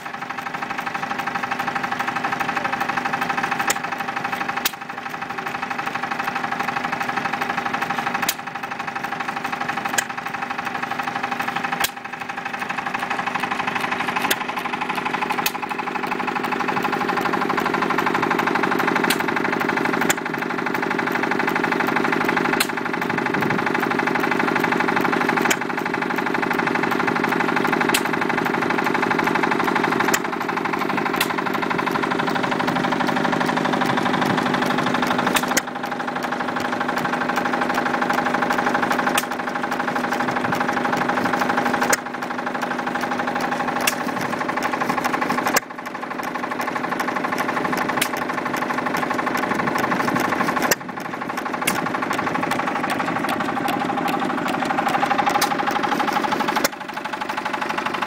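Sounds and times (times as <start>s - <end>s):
engine mechanical clatter: 0.0s - 58.0s.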